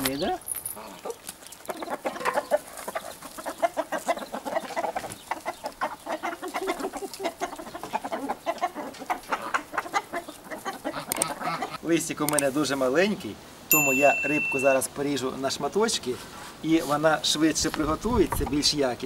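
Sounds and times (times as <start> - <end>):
chickens clucking: 0.0 - 12.5, 16.0 - 19.0.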